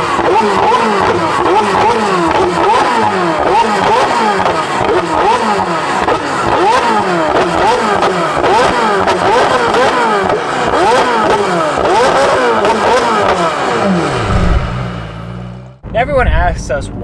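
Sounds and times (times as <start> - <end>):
sports car engine revving: 0.0 - 15.9.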